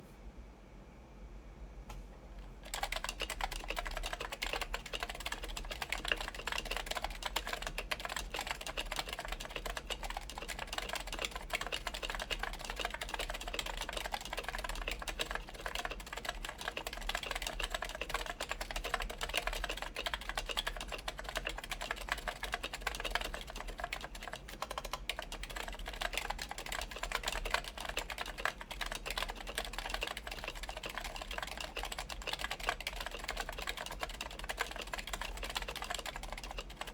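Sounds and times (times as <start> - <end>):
keyboard typing: 2.6 - 36.9.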